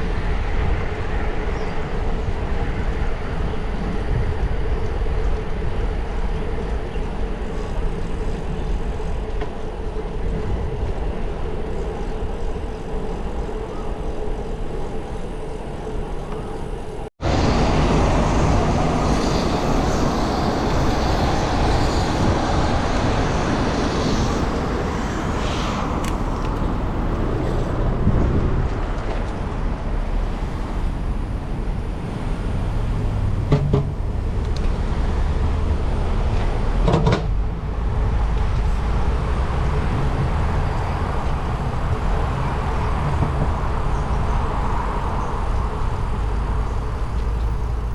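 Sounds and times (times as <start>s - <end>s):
road and traffic noise: 0.0s - 47.9s.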